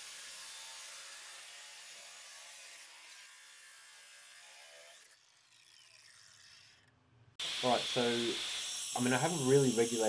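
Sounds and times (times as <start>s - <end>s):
angle grinders cutting steel: 0.0s - 10.0s.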